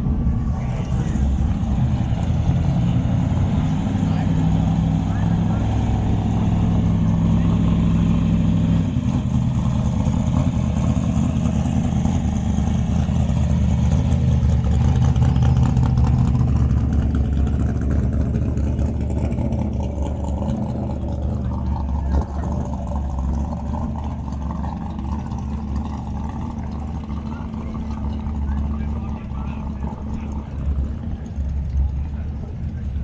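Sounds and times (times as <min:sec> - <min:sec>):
car engine running at low revs: 0:00.0 - 0:33.0.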